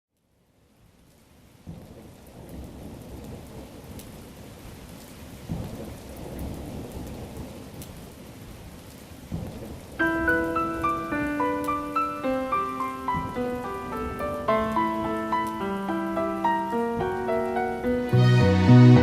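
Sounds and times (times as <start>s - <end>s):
steady rain: 0.1s - 19.0s
rolling thunder: 1.7s - 8.6s, 9.3s - 19.0s.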